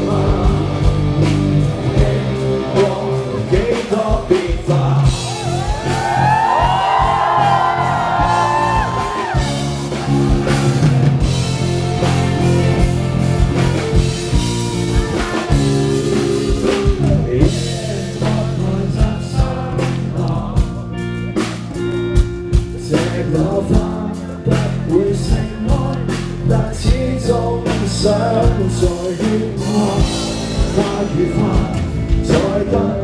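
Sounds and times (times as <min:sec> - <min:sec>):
live rock band: 0:00.0 - 0:33.0
gliding lead guitar line: 0:05.0 - 0:33.0.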